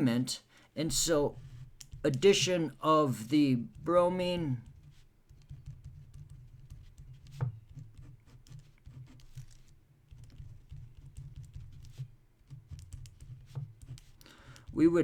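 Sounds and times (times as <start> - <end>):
pen scratching and tapping: 0.8 - 15.0.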